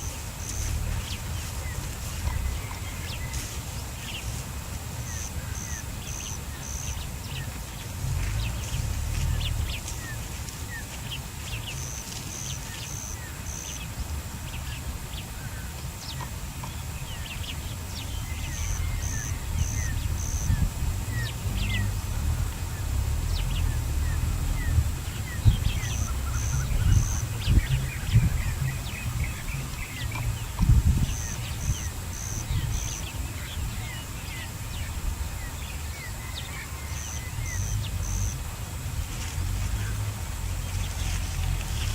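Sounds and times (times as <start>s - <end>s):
wind buffeting microphone: 0.0s - 12.2s, 13.2s - 41.9s
birds chirping: 0.0s - 41.9s.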